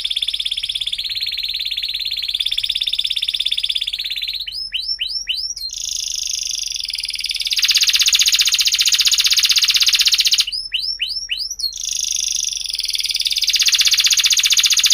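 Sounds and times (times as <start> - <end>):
canary singing rapid trill: 0.0 - 14.9.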